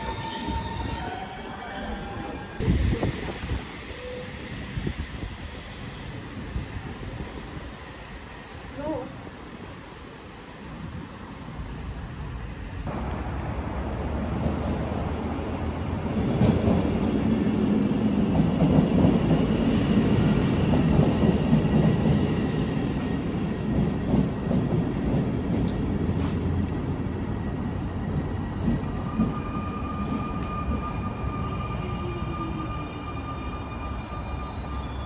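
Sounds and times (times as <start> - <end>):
train wheels rumbling on rails: 0.0 - 31.4.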